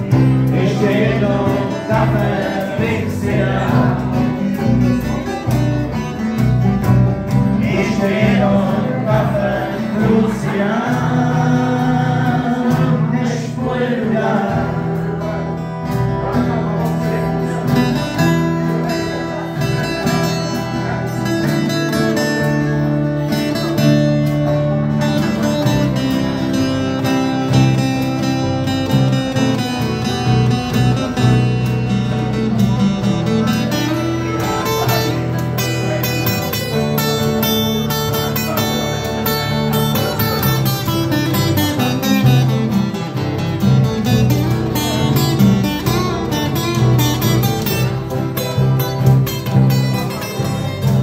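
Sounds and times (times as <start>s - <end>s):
acoustic guitars strumming: 0.0s - 51.0s
bass guitar line: 0.0s - 51.0s.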